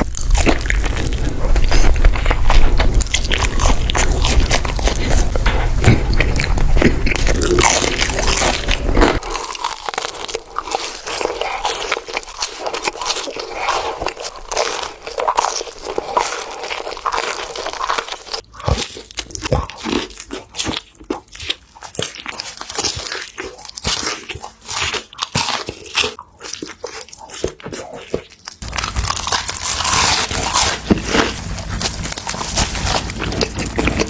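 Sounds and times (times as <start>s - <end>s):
crunchy chewing of food: 0.0s - 34.0s.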